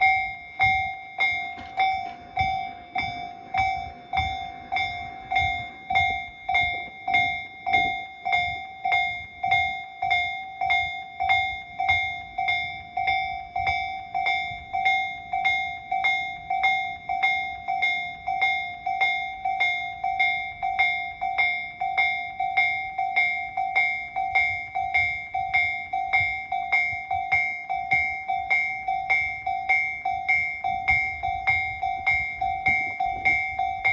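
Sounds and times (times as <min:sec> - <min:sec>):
level-crossing bell clanging: 0:00.0 - 0:33.9.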